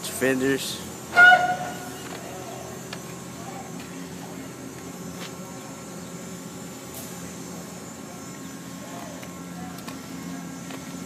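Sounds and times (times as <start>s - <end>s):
engine hum: 0.8s - 11.0s.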